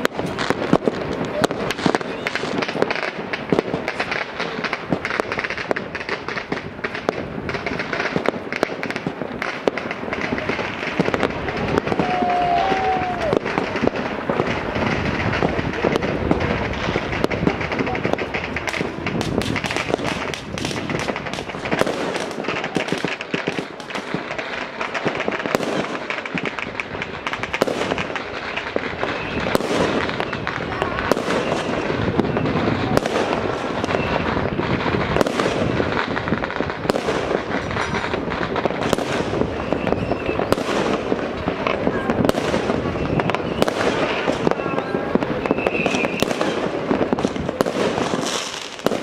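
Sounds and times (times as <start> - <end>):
firecrackers crackling: 0.0 - 49.0
loud firework bangs: 0.0 - 49.0.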